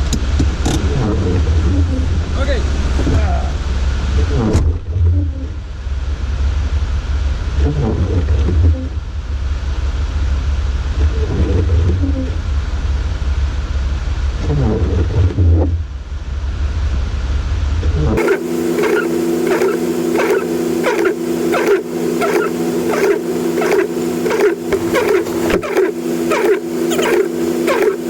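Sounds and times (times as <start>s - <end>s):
vehicle rumble: 0.0s - 28.0s.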